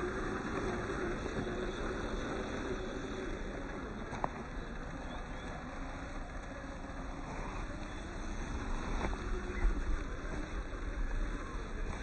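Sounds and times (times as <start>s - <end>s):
small electric motor whirring: 0.0s - 12.0s
tyres on gravel: 0.0s - 12.0s.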